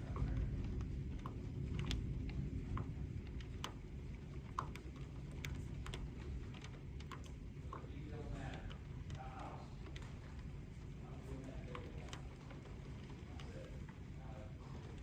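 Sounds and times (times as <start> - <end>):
raindrops ticking: 0.0 - 14.2.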